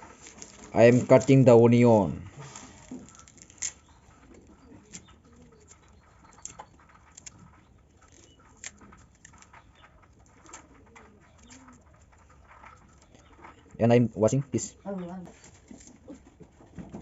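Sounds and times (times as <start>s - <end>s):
pigeons cooing: 2.3s - 17.0s.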